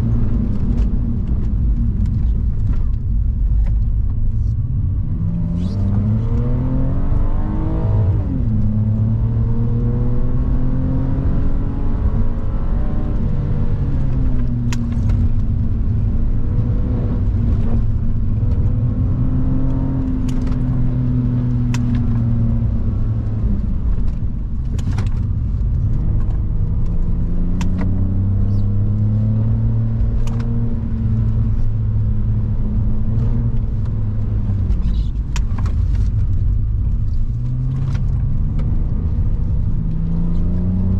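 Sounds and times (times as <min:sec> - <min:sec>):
car engine revving: 0:04.8 - 0:40.9.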